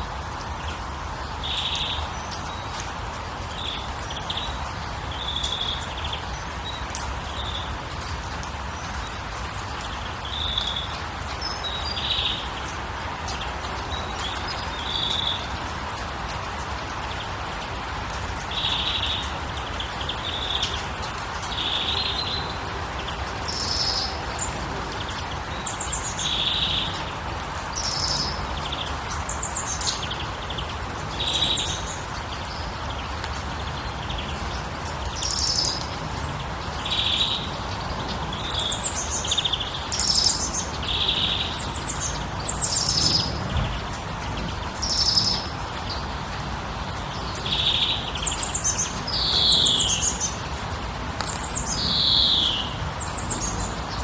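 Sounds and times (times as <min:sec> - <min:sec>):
songbirds chirping: 0:00.1 - 0:54.0.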